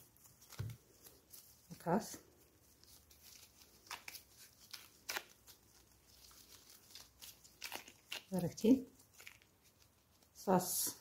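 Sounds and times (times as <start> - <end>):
hands kneading dough: 0.0 - 11.0.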